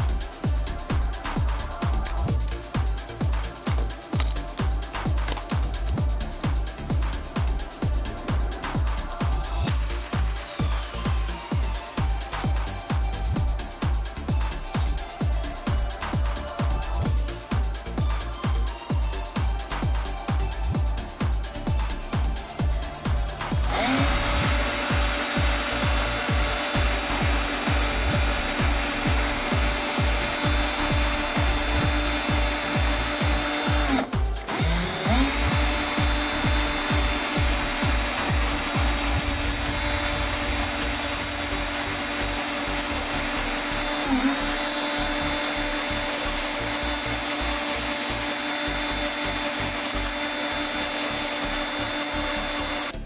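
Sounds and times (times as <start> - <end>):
cordless drill spinning: 0.0 - 20.7, 21.6 - 53.0.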